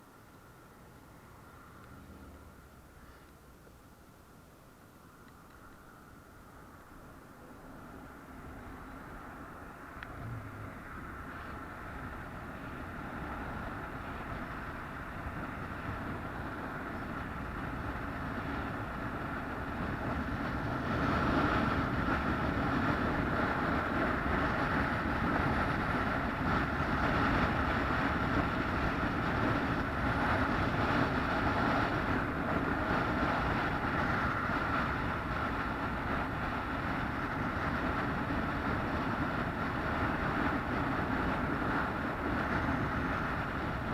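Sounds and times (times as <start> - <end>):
moving vehicle running: 0.0 - 43.9.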